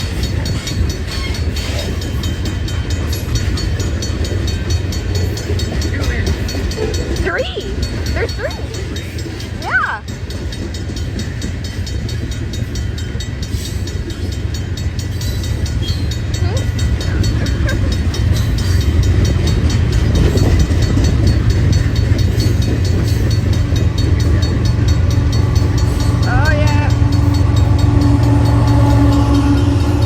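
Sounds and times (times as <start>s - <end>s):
crossing bell ringing: 0.0s - 30.0s
diesel train rumbling past: 0.0s - 30.0s.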